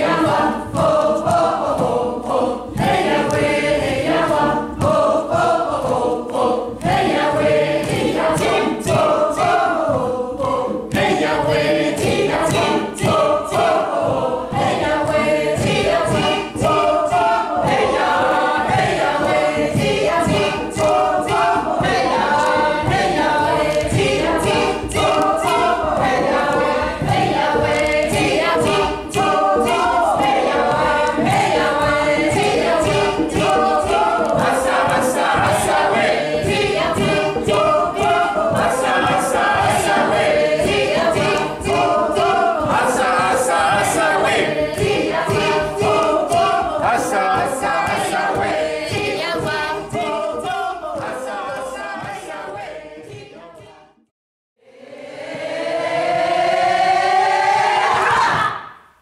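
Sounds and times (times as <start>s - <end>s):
percussive beat: 0.0s - 54.0s
voices singing in chorus: 0.0s - 58.8s.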